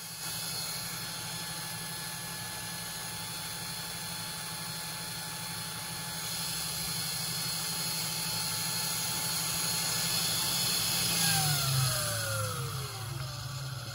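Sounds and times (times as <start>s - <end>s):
electric motor whining: 0.0s - 13.9s
hiss: 0.0s - 13.9s.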